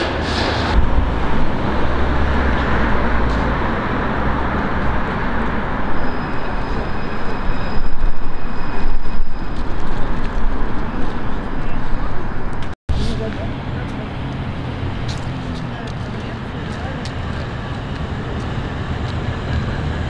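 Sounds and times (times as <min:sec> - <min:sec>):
bus engine running: 0:00.0 - 0:07.4, 0:09.6 - 0:20.0.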